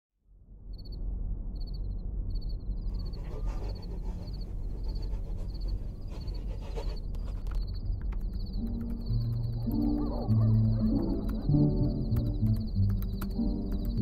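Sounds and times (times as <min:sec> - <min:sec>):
cricket chirping: 0:00.6 - 0:14.0.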